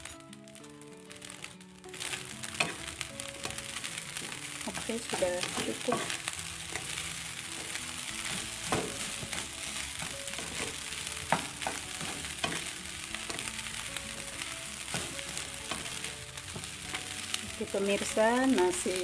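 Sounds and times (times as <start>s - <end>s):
rice sizzling in a wok: 0.0s - 19.0s
spatula scraping pan: 2.0s - 17.4s.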